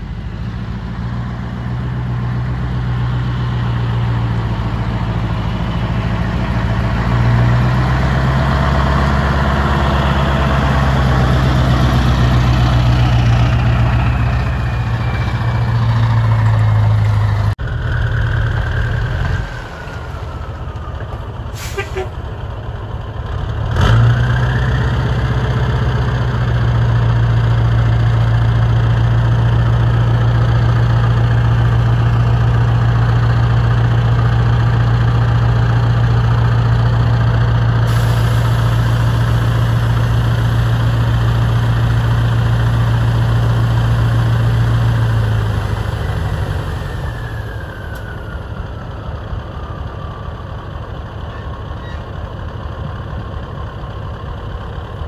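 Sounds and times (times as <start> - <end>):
diesel truck engine revving: 0.0 - 55.0.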